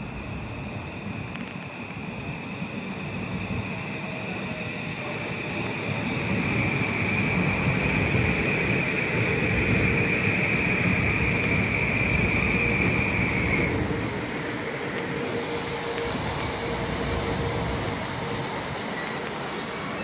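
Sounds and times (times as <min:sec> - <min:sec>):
rumble of wheels on rail: 0:00.0 - 0:20.0.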